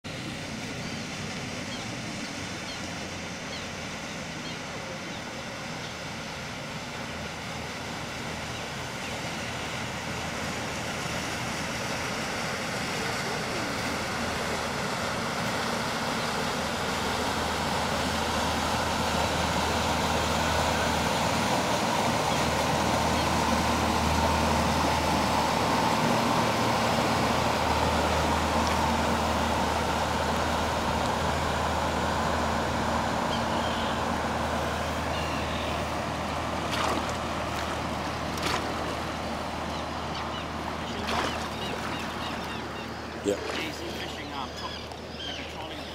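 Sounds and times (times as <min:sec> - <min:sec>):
boat diesel engine droning: 0:00.0 - 0:45.9
rush of bow wash: 0:00.0 - 0:45.9.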